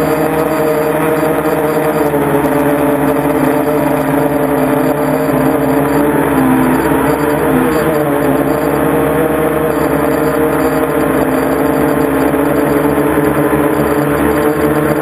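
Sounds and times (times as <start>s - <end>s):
drone motors and propellers whirring: 0.0s - 15.0s.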